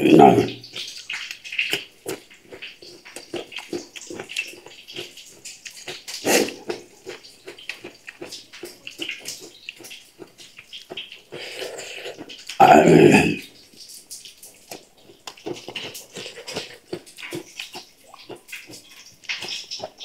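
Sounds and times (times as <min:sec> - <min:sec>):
cucumber crunching: 0:00.0 - 0:20.0.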